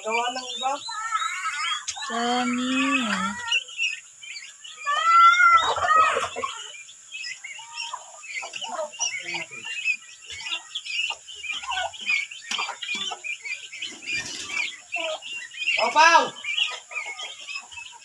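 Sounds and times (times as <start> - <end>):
turkey poults peeping: 0.0 - 18.0.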